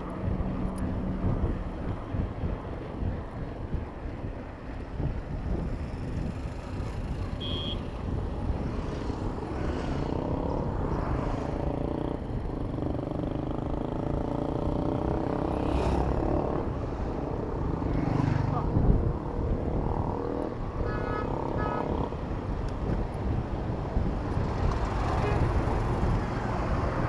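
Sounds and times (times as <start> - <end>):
motor vehicles running: 0.0 - 27.0
wind rumbling on microphone: 0.0 - 27.0.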